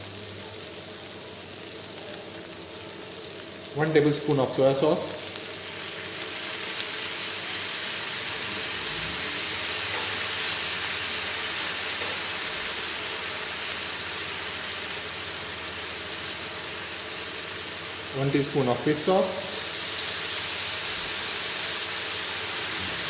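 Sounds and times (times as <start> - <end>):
noodles sizzling in a pan: 0.0 - 23.0.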